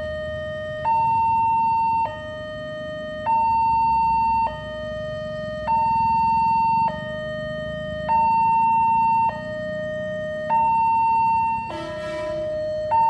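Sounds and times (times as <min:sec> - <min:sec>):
two-tone level crossing siren: 0:00.0 - 0:13.0.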